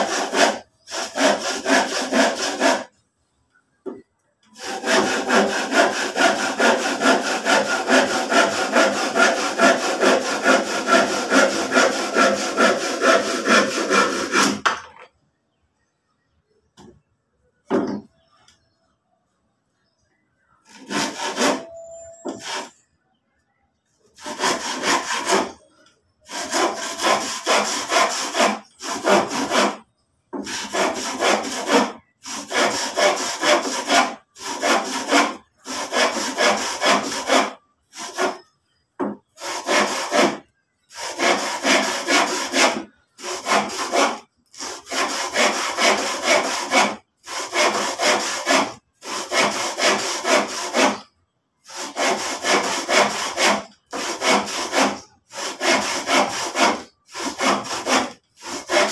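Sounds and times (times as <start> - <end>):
handsaw cutting lumber: 0.0 - 2.9, 4.5 - 14.8, 20.7 - 22.8, 24.2 - 51.1, 51.7 - 58.9.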